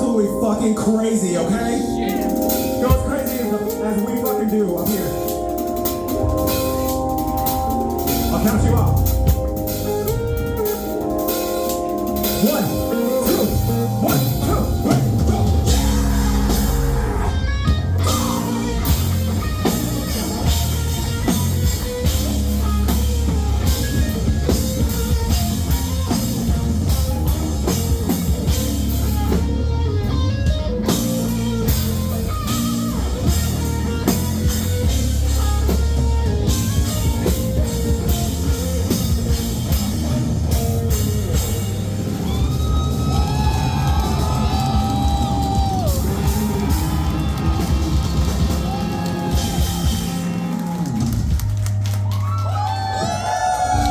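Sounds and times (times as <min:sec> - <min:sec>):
guitars: 0:00.0 - 0:53.9
steady bass: 0:00.0 - 0:53.9
drum kit: 0:01.8 - 0:53.9.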